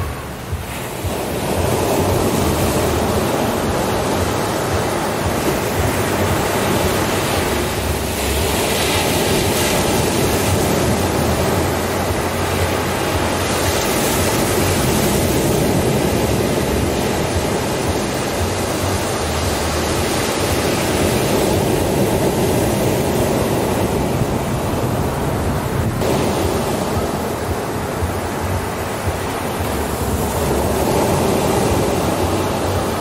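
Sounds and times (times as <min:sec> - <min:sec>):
waves breaking on a beach: 0:00.0 - 0:33.0.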